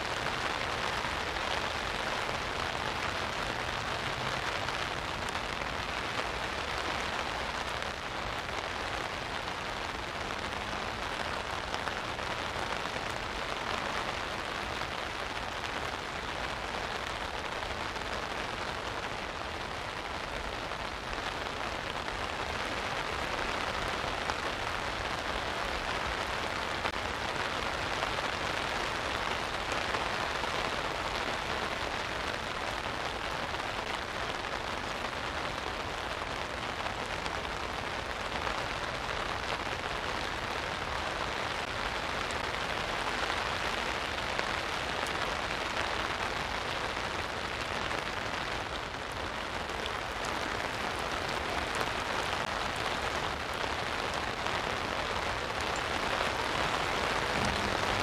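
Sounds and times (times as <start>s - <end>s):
rain drumming on umbrella: 0.0s - 58.0s
rain hissing on water: 0.0s - 58.0s.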